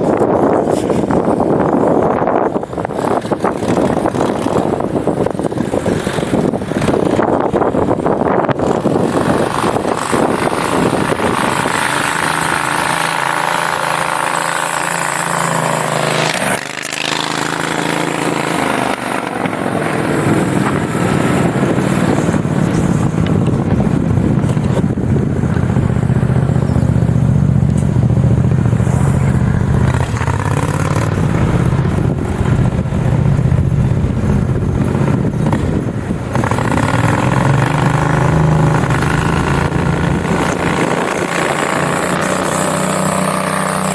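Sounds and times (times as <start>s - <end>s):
mini bike engine revving: 0.0s - 43.9s.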